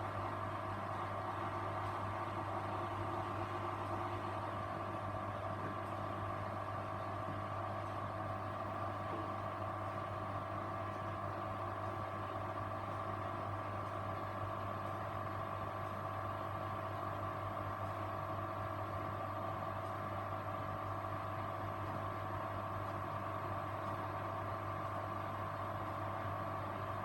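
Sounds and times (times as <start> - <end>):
washing machine motor hum: 0.0 - 27.0.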